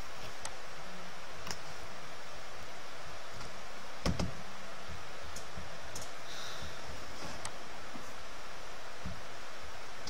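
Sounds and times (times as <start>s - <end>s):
microphone hiss: 0.0s - 10.0s.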